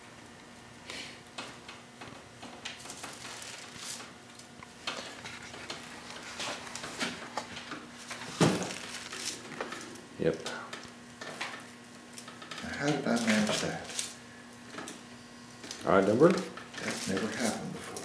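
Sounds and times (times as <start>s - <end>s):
faint steady hum: 0.0s - 18.0s
dry stems rustling and crackling: 2.0s - 15.0s, 15.6s - 18.0s.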